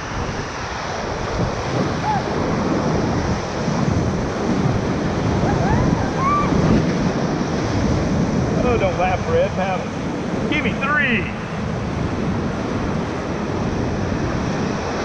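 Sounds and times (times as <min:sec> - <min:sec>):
whitewater rushing and splashing: 0:00.0 - 0:15.0
wind buffeting microphone: 0:00.0 - 0:15.0.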